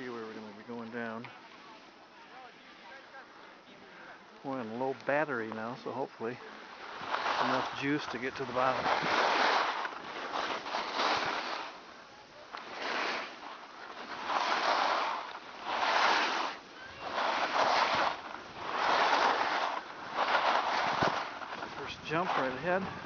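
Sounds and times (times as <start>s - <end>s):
skis carving on packed snow: 0.0s - 23.0s.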